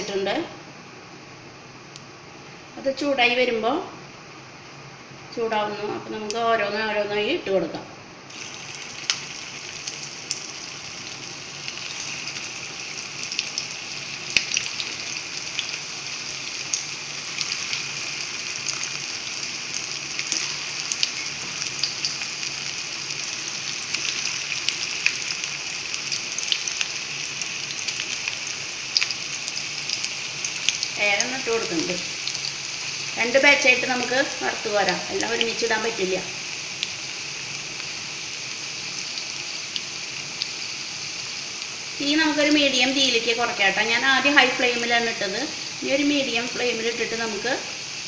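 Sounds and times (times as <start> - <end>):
food deep-frying in oil: 8.3 - 48.0.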